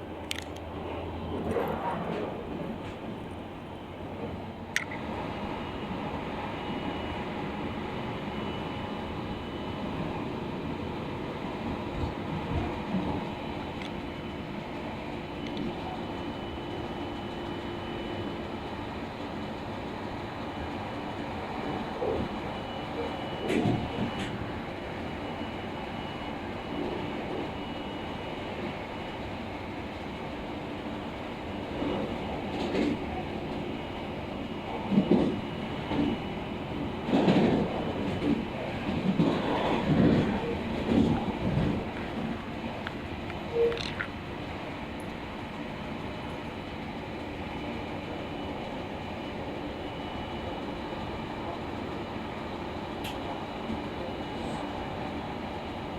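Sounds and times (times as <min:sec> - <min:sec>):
train running rumble: 0:00.0 - 0:55.9.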